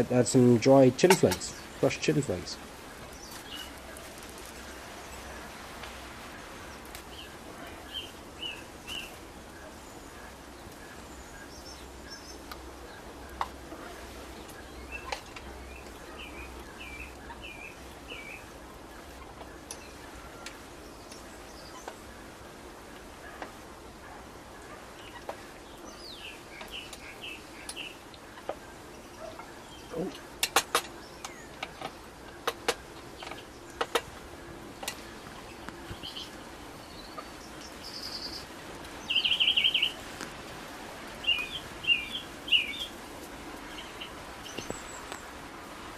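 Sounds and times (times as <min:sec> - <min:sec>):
small birds chirping: 0:00.0 - 0:45.9
steady hiss: 0:00.0 - 0:45.9.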